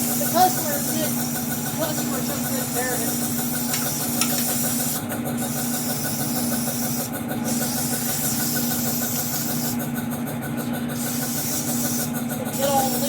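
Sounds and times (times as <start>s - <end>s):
compressed air hissing: 0.0s - 10.0s, 10.8s - 13.0s
air compressor running: 0.0s - 13.0s.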